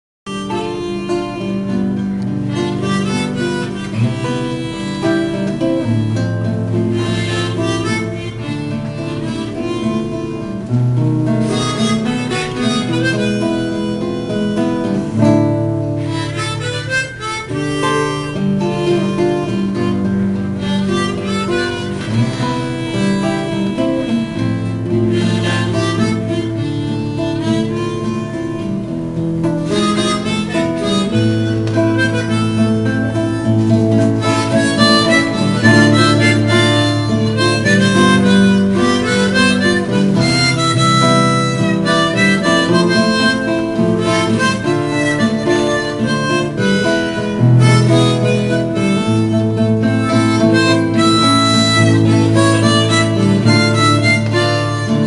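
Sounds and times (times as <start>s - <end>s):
acoustic guitar chords: 0.3s - 55.0s
harmonica melody: 0.3s - 55.0s.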